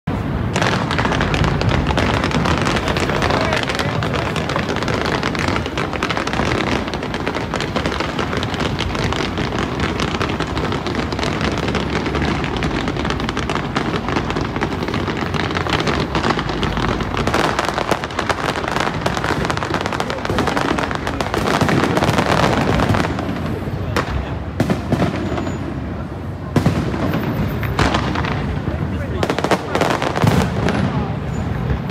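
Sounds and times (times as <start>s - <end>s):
fireworks crackling and popping: 0.0s - 31.9s.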